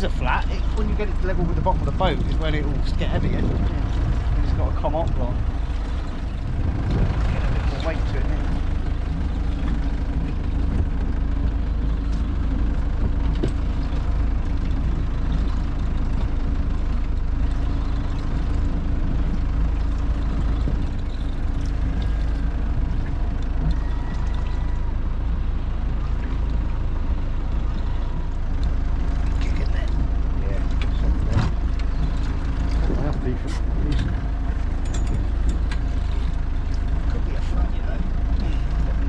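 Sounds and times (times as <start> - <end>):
boat engine rumble: 0.0 - 39.0
water noise: 0.0 - 39.0
wind: 0.0 - 39.0.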